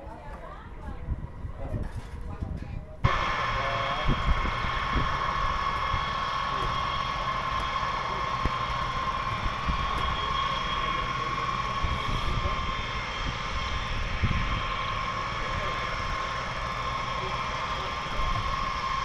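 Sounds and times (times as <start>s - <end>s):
wind buffeting microphone: 0.0s - 19.0s
distant jet engines whining: 2.9s - 19.0s.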